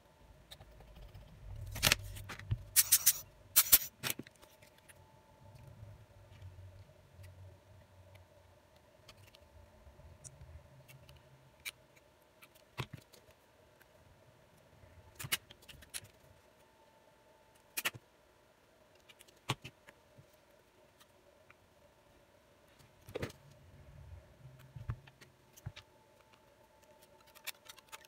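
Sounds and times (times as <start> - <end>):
quiet steady hum: 0.0 - 28.0.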